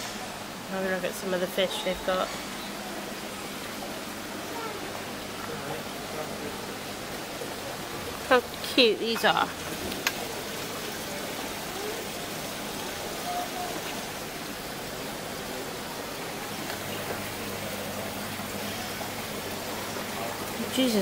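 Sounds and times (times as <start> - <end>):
aquarium bubblers and filters hissing: 0.0 - 21.0.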